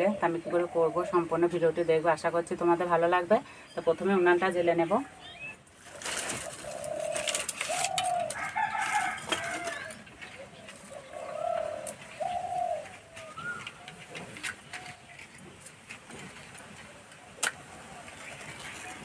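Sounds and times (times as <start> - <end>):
doves cooing: 0.0 - 2.0, 5.0 - 19.0.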